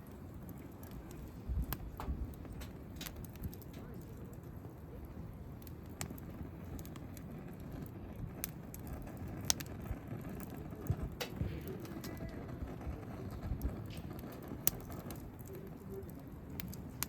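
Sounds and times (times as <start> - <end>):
campfire crackling and popping: 0.0 - 17.0
steady low rumble: 0.0 - 17.0.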